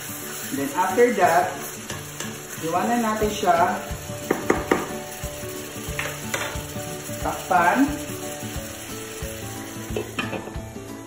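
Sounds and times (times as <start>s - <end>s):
background music: 0.0s - 11.0s
chicken sizzling in a pot: 0.0s - 11.0s.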